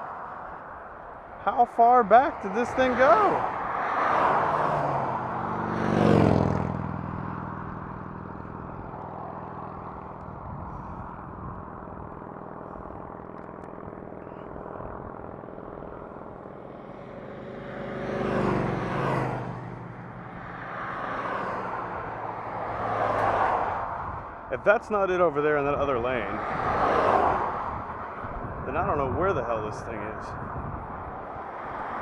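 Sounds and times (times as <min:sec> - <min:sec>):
traffic hum: 0:00.0 - 0:32.0
vehicle passing by: 0:02.0 - 0:32.0.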